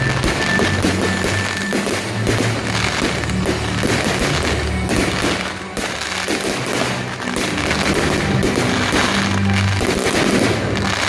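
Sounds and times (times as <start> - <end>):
firework bangs and crackling: 0.0 - 11.0
music playing: 0.0 - 11.0.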